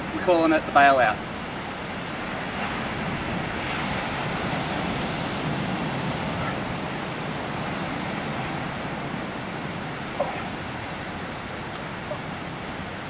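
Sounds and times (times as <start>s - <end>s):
ocean surf breaking: 0.0s - 13.0s
wind: 0.0s - 13.0s.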